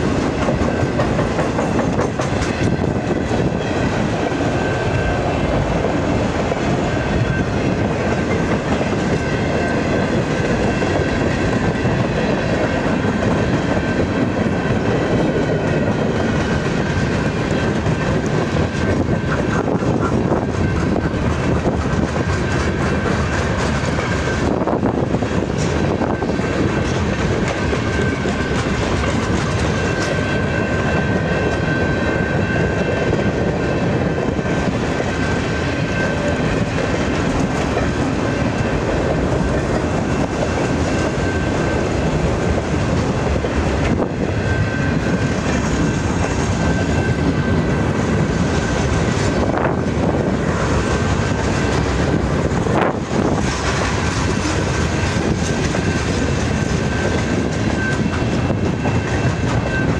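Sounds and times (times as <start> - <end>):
heavy rumble of train: 0.0 - 59.9
train wheels clacking on rail joints: 0.0 - 59.9.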